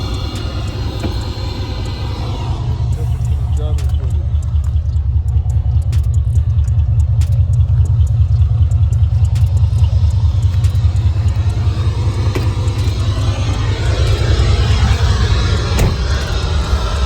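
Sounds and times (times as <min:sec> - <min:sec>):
car rumble: 0:00.0 - 0:17.0
faint clicks: 0:00.0 - 0:17.0.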